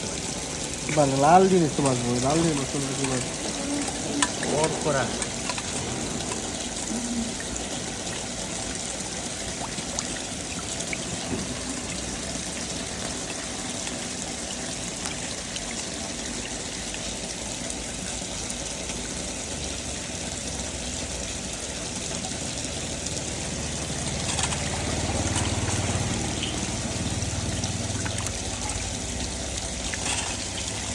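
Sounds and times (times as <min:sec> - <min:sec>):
deep rush of water: 0:00.0 - 0:30.9
water pouring and trickling: 0:00.0 - 0:30.9.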